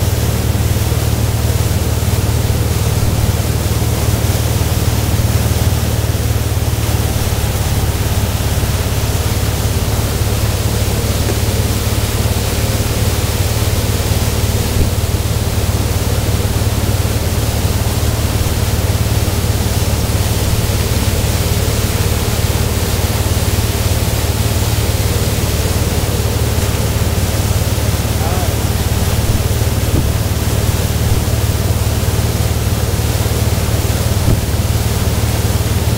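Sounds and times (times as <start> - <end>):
boat engine drone: 0.0 - 35.9
churning wake: 0.0 - 35.9.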